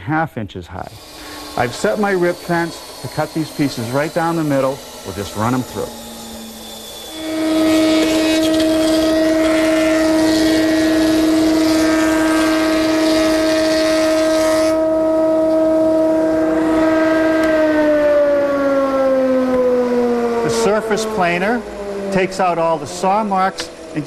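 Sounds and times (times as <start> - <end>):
wood cutting hiss: 0.7 - 18.8, 20.4 - 24.0
surface planer whining: 0.8 - 24.0.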